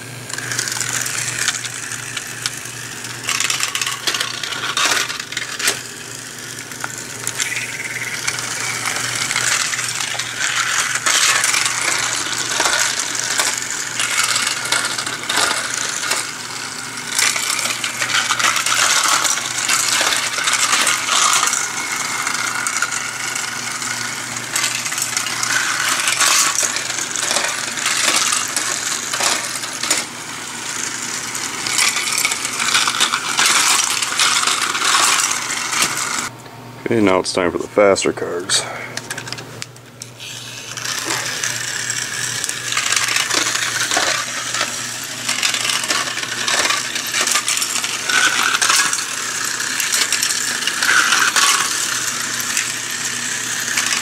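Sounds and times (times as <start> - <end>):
toy car rattling on plastic track: 0.3 - 36.3, 40.2 - 54.0.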